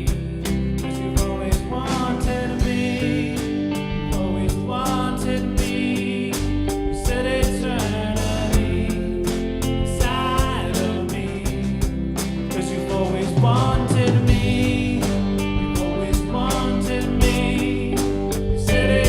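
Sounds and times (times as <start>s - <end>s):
drum kit beat: 0.0s - 19.0s
guitar: 0.0s - 19.0s
person singing: 0.0s - 19.0s.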